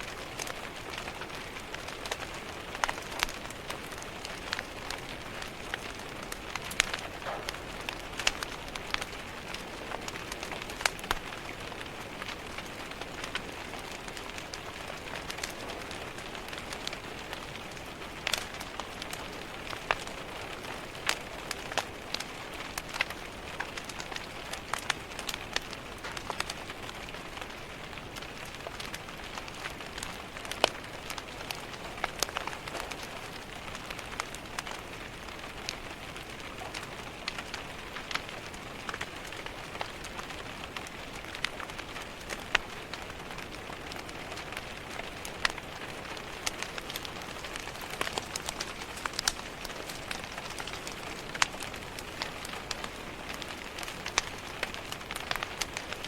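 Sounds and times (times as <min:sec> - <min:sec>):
steady rain hiss: 0:00.0 - 0:56.0
wood fire crackling and popping: 0:00.0 - 0:56.0.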